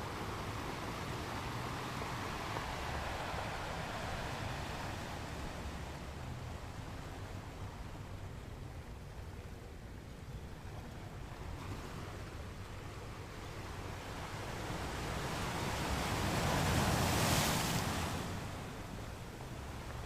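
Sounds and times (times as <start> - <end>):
ocean waves breaking on shore: 0.0 - 8.4, 10.6 - 20.0.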